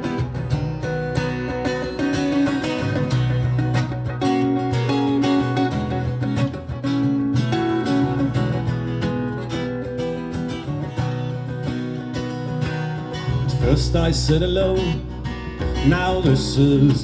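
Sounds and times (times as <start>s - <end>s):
guitar picked notes: 0.0s - 17.0s.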